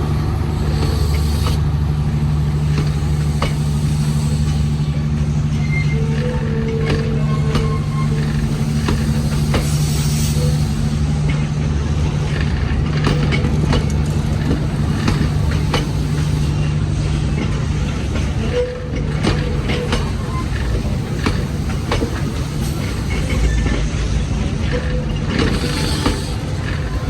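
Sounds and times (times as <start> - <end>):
train engine drone: 0.0 - 27.0
wheels clacking over rail joints: 0.0 - 27.0.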